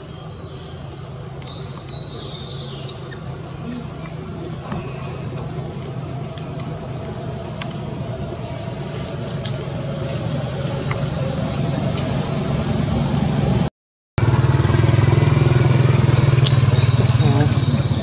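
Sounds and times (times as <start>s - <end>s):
motor engine running: 0.0s - 18.0s.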